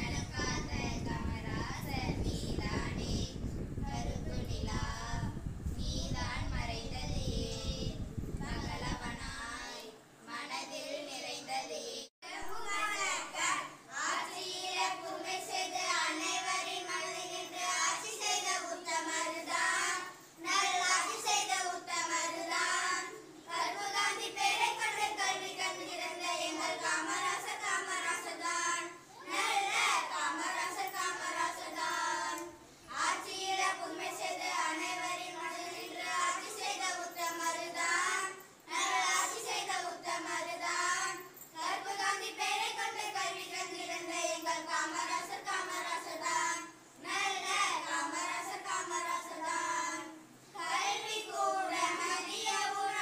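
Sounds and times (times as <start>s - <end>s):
children singing: 8.6s - 53.0s.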